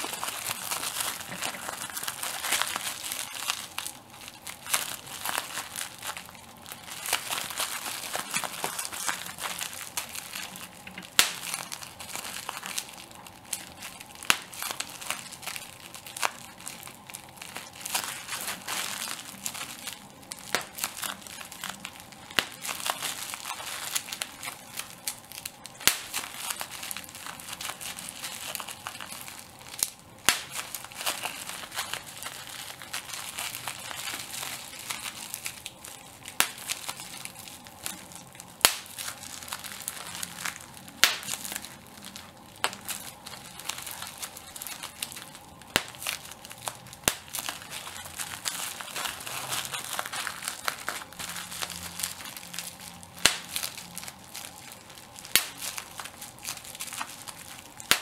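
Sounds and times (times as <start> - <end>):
bubble wrap crinkling: 0.0 - 58.0
bubble wrap popping: 0.0 - 58.0.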